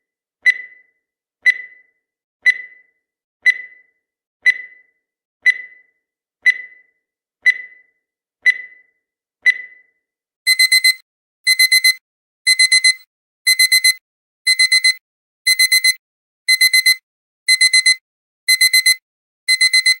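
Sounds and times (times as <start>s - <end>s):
countdown timer beep: 0.5s - 8.9s, 10.5s - 20.0s
digital alarm beeping: 0.5s - 20.0s.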